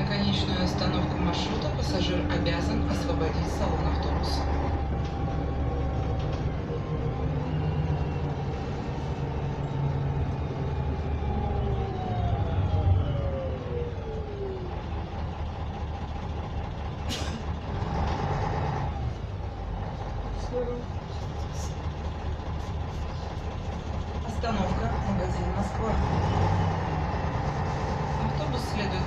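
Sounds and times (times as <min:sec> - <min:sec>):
bus diesel engine droning: 0:00.0 - 0:29.0.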